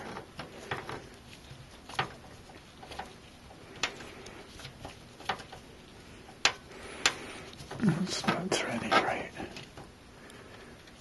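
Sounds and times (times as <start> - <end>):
faint handling rustle: 0.0 - 11.0.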